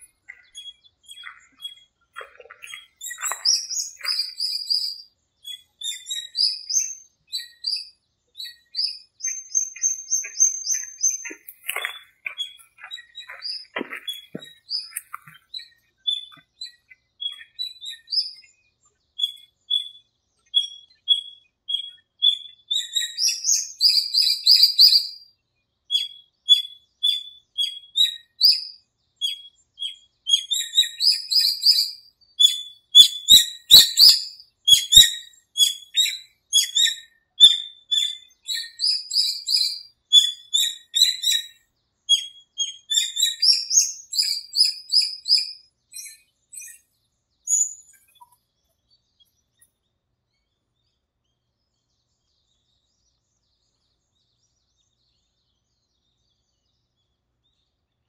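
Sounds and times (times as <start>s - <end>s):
small songbirds chirping: 0.0s - 58.0s.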